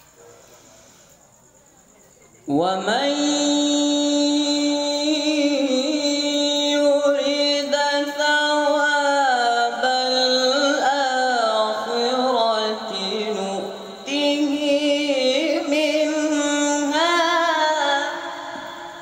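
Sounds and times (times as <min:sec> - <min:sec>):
boy reciting melodically: 0:02.5 - 0:19.0.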